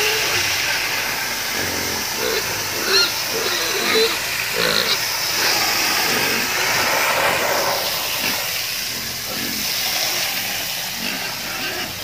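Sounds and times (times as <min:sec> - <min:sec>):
water spraying from hose: 0:00.0 - 0:12.0.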